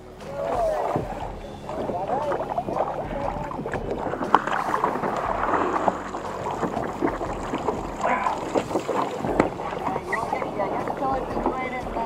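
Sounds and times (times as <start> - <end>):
water splashing against boat: 0.0 - 12.0
wind on microphone: 0.4 - 12.0
knocks on boat: 0.8 - 12.0.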